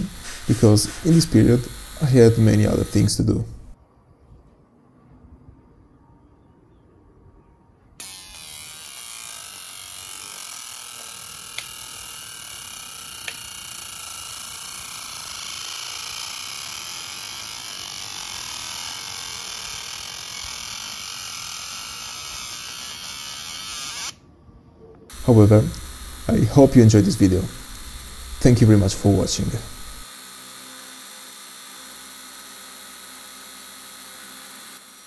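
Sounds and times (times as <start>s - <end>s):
laser engraver buzzing hiss: 0.0s - 3.8s, 8.0s - 24.2s, 25.1s - 35.0s.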